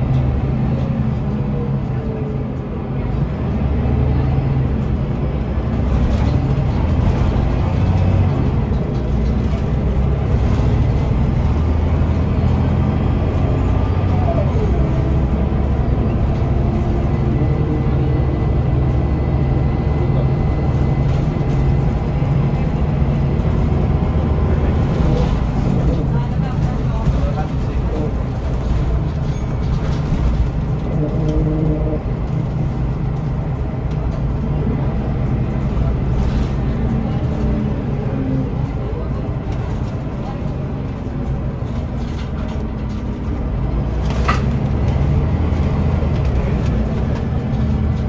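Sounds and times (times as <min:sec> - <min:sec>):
bus diesel engine droning: 0:00.0 - 0:48.0.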